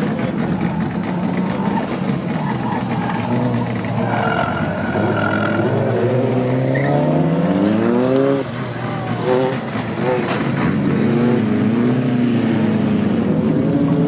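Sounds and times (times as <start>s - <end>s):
car engine pulling hard: 0.0s - 14.0s.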